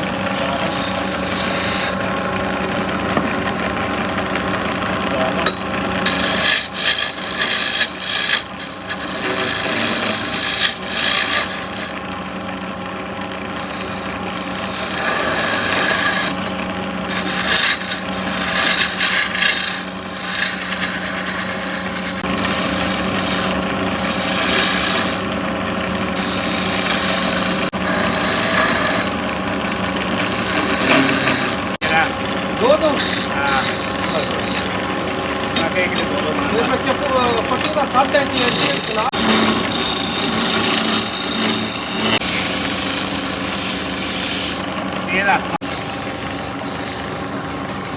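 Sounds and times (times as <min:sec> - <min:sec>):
rasping wood cutting: 0:00.0 - 0:03.5, 0:04.4 - 0:47.8
machine hum: 0:00.0 - 0:47.9.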